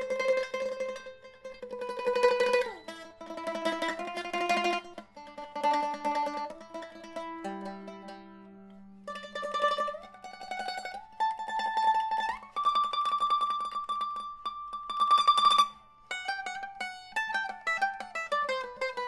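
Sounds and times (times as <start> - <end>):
mandolin tremolo picking: 0.0 - 19.0.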